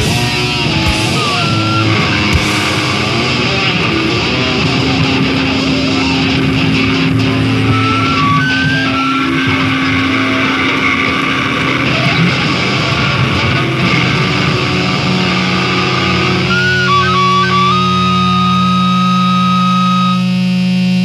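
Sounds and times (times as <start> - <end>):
distorted electric guitar feedback: 0.0 - 21.0
high feedback squeals: 0.0 - 21.0.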